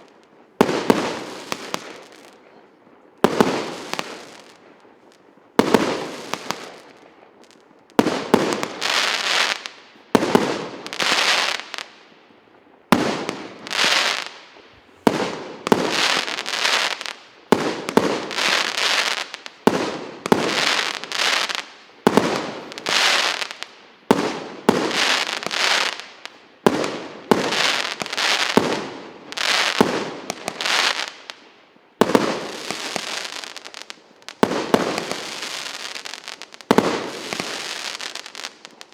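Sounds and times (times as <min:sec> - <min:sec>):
crackling hiss: 0:00.0 - 0:38.9
fireworks bangs: 0:03.2 - 0:11.9, 0:12.9 - 0:31.4, 0:32.0 - 0:38.9.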